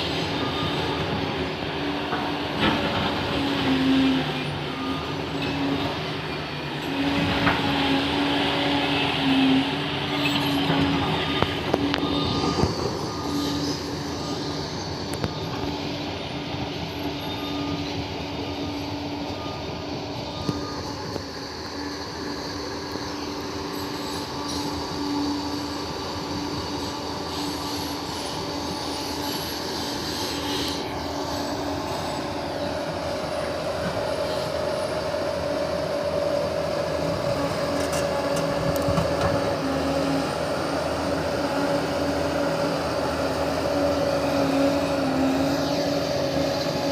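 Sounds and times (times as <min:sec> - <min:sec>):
bulldozer diesel engine: 0:00.0 - 0:46.9
steel tracks squealing and clanking: 0:00.0 - 0:46.9.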